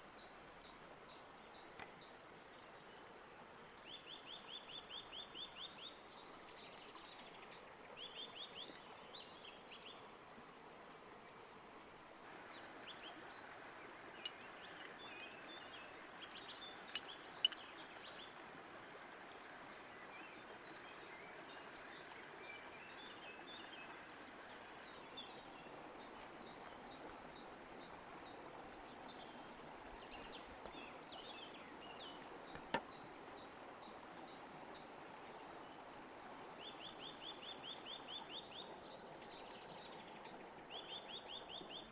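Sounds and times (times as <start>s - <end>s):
running creek: 0.0s - 41.9s.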